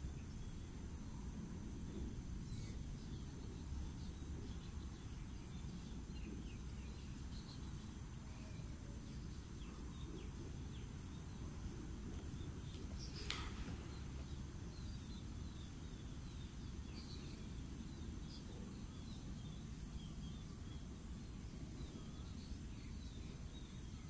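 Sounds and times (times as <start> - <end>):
faint bird chirps: 1.8 - 24.0.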